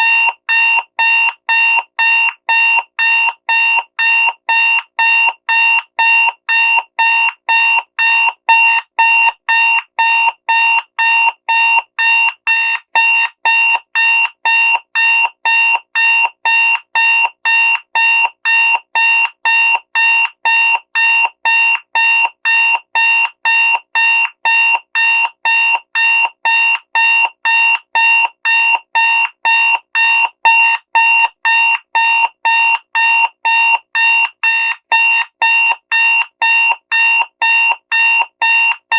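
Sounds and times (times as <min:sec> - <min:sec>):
digital alarm clock beeping: 0:00.0 - 0:38.9.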